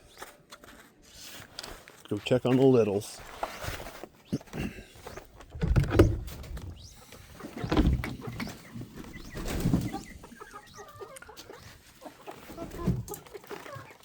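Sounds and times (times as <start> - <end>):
chickens calling faintly: 0.0 - 14.0.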